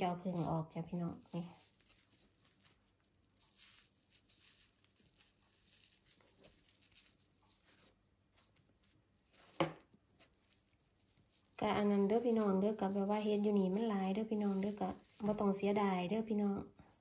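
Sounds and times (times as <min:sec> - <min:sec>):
soft scraping and tearing of mushroom: 0:00.0 - 0:17.0.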